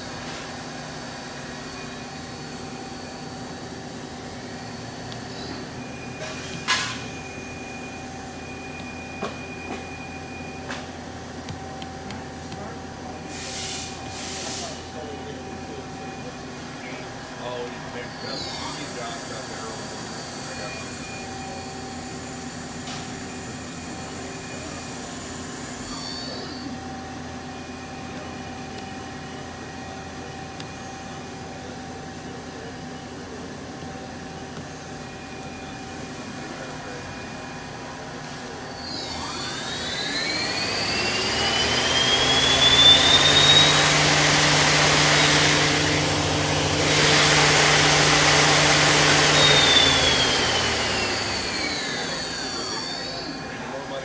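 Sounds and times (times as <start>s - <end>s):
lathe humming: 0.0s - 54.0s
spindle whining: 0.0s - 54.0s.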